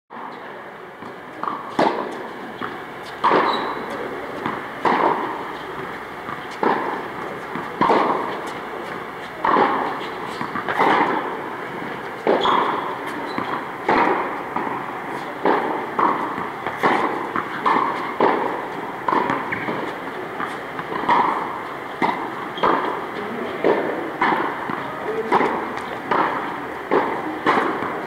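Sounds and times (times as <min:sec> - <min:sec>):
tennis ball struck by rackets: 0:01.0 - 0:28.0.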